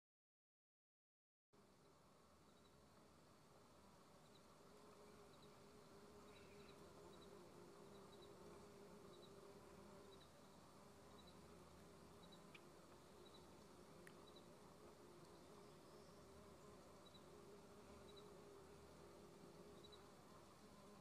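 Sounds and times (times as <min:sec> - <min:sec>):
bumblebees buzzing: 0:01.6 - 0:21.0.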